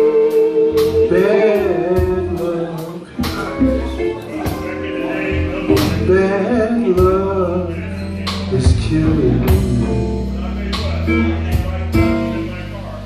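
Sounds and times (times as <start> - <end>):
bass guitar: 0.0 - 13.0
drums: 0.0 - 13.0
man singing: 0.0 - 13.0.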